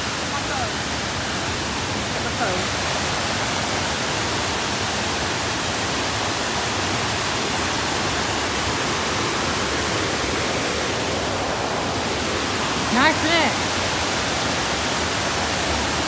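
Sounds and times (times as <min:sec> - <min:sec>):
water rushing over a weir: 0:00.0 - 0:16.0.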